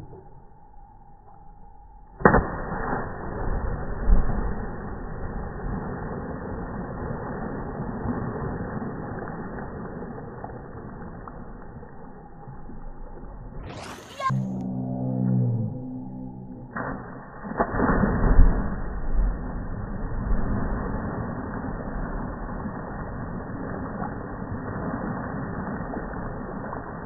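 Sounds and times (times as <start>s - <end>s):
slowed-down splash into pool: 2.2s - 27.0s
low rush of churning water: 2.3s - 14.4s, 16.7s - 27.0s.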